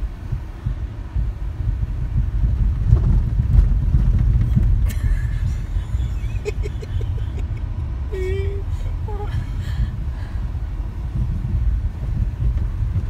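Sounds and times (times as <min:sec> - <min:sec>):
car cabin rumble on dirt road: 0:00.0 - 0:13.0.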